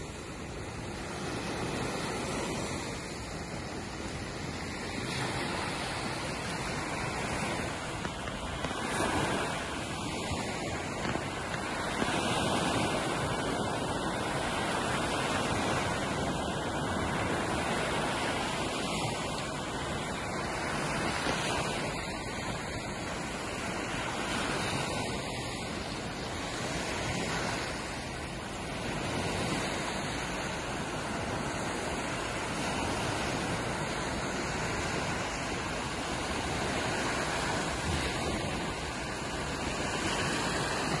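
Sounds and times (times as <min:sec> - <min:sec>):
small waves breaking on beach: 0:00.0 - 0:41.0.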